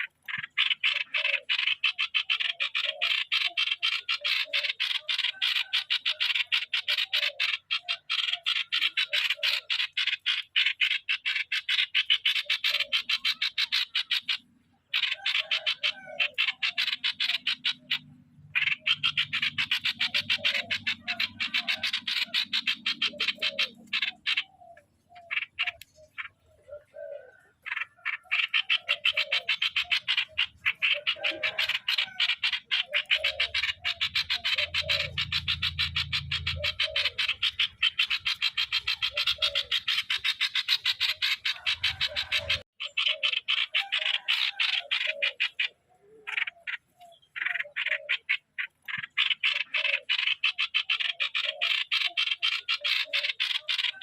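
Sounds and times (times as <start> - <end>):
bird decoy calling harsh notes: 0.0 - 54.0.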